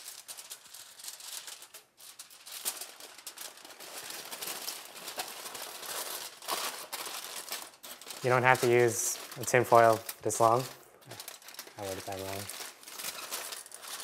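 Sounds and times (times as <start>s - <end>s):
aluminum foil crinkling: 0.0s - 14.0s.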